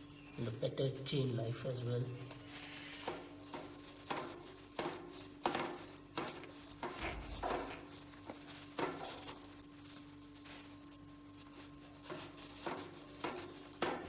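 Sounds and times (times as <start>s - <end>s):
cloth rubbing bicycle cogs: 0.9s - 14.0s.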